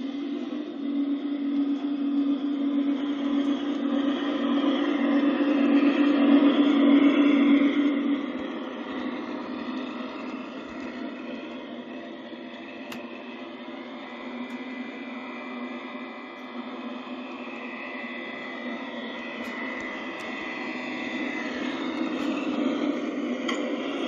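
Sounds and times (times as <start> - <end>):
model train motor whine: 0.0 - 24.0
wheels rolling on rails: 1.6 - 24.0.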